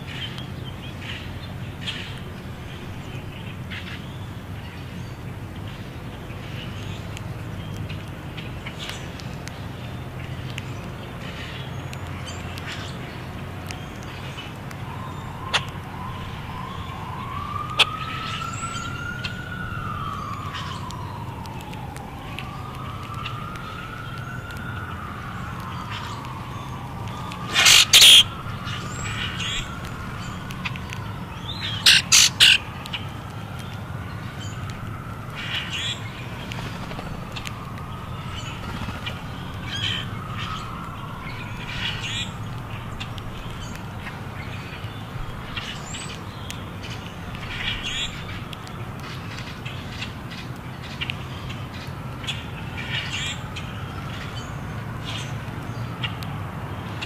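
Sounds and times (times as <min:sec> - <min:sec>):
blackbirds calling: 0:00.0 - 0:57.0
distant siren wailing: 0:00.0 - 0:57.0.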